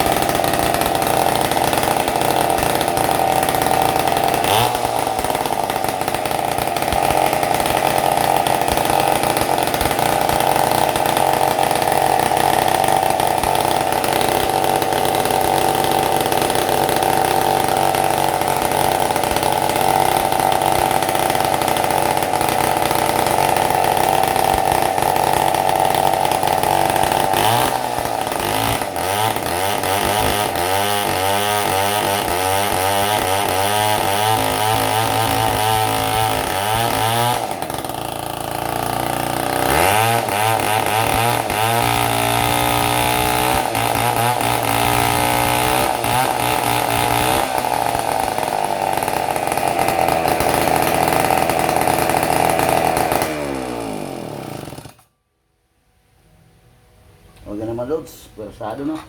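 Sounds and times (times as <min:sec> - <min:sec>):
chainsaw engine revving: 0:00.0 - 0:55.1.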